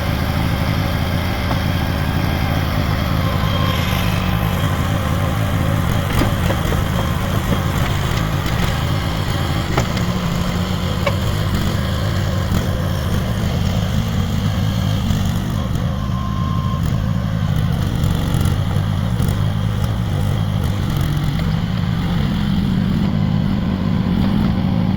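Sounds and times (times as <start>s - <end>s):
small excavator engine running: 0.0s - 24.9s.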